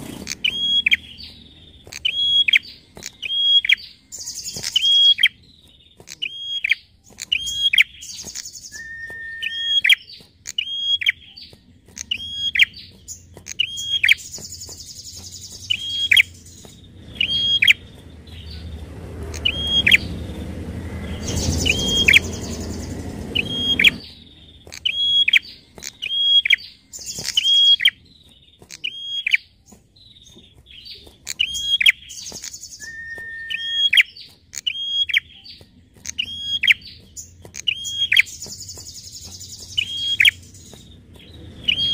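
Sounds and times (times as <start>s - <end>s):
bird calling in sharp notes: 0.0s - 41.9s
buzzy bird trills: 0.0s - 41.9s.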